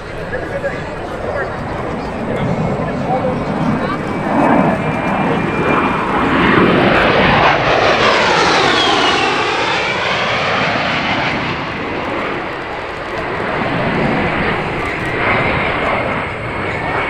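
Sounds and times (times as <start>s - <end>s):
jet aircraft passing: 0.0s - 17.0s.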